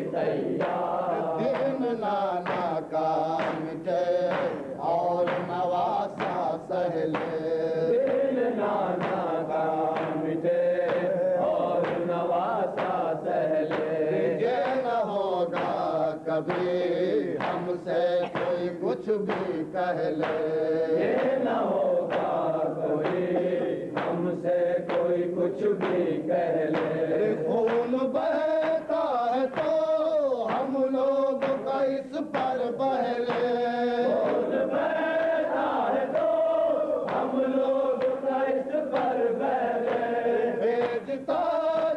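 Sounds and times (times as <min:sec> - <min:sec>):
men chanting in unison: 0:00.0 - 0:41.9
hands slapping chests: 0:00.2 - 0:34.6, 0:35.2 - 0:39.2, 0:39.8 - 0:41.9.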